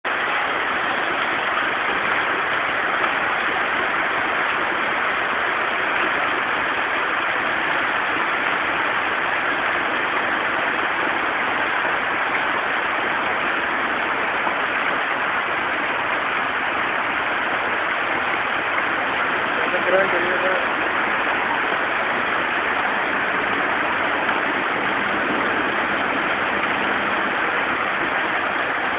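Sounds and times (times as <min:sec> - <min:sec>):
heavy rain pouring: 0:00.0 - 0:28.9
rushing runoff water: 0:00.0 - 0:28.9.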